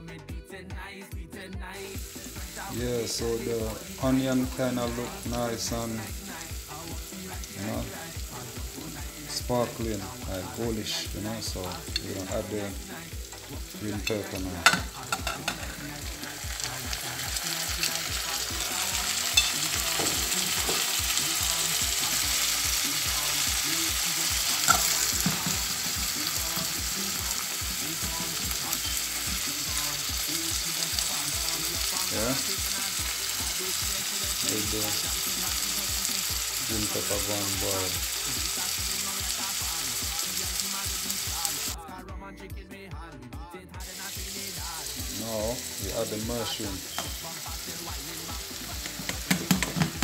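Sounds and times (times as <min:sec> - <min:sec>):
vegetables sizzling in hot oil: 0:01.8 - 0:41.8, 0:43.8 - 0:50.0.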